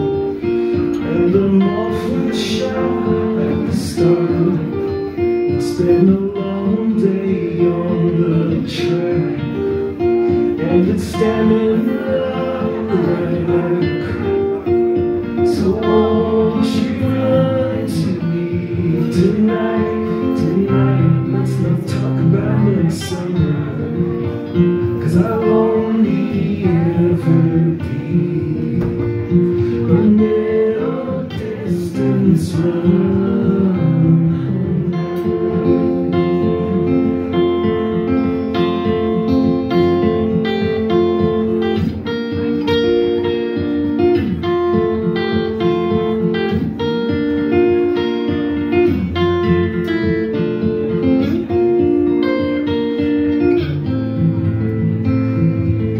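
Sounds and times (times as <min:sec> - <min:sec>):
man singing: 0:00.0 - 0:54.0
strummed acoustic guitar: 0:00.0 - 0:55.9.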